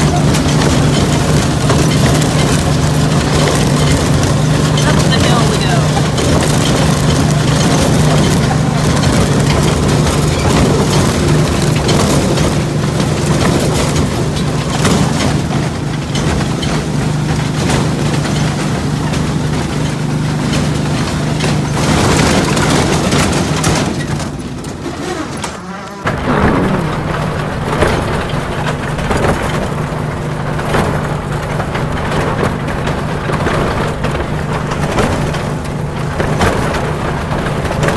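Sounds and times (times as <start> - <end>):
miniature train engine running: 0.0 - 37.9.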